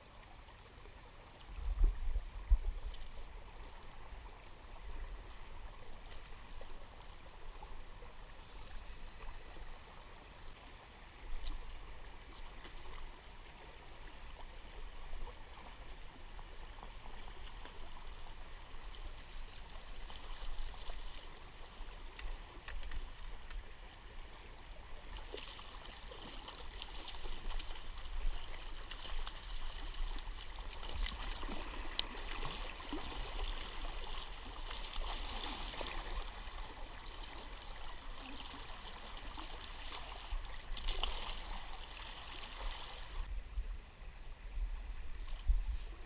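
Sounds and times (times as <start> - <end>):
river water rushing and gurgling: 0.0 - 43.3.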